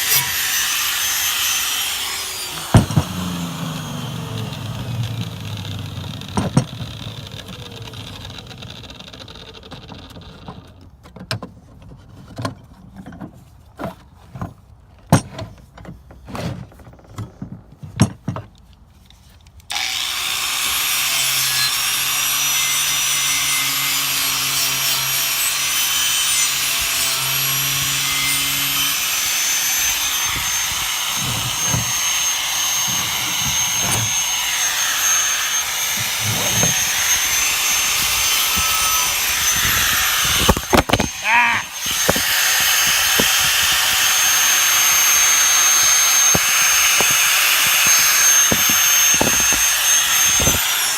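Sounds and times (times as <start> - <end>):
power tool whining: 0.0 - 10.7, 19.7 - 50.9.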